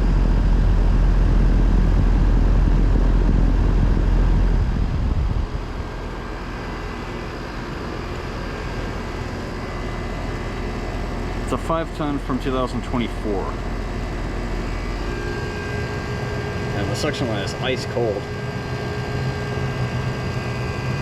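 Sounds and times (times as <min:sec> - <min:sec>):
air conditioner fan moving air: 0:00.0 - 0:21.0
compressor humming: 0:00.0 - 0:21.0.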